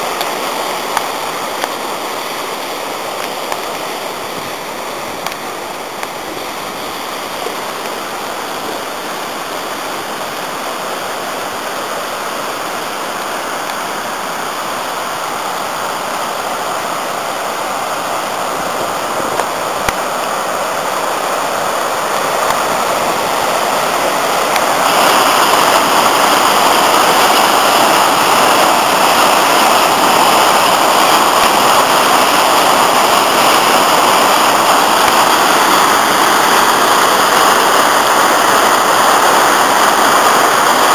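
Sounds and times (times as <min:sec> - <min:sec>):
river rushing over rapids: 0:00.0 - 0:40.9.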